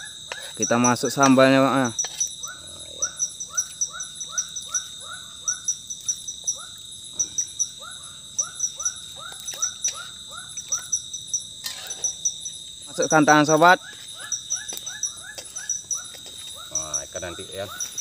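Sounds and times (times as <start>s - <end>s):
frog chirping: 0.0s - 18.0s
high insect drone: 0.0s - 18.0s
insect ticking: 0.0s - 18.0s.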